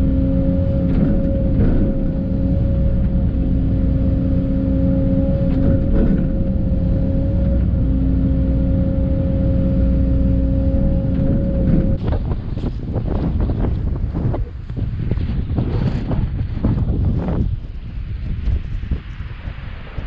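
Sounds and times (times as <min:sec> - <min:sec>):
constant hydraulic whine: 0:00.0 - 0:20.0
excavator diesel engine drone: 0:00.0 - 0:20.0.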